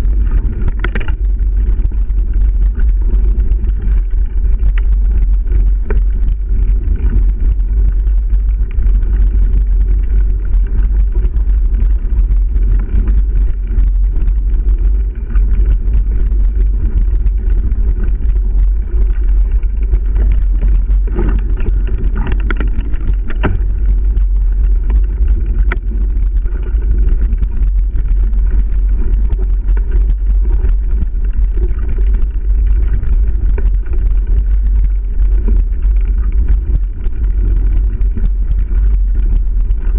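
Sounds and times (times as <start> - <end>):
mountain bike rattle and tyre noise: 0.0 - 39.9
wind buffeting microphone: 0.0 - 39.9
knocks and clicks from trail bumps: 0.1 - 39.9.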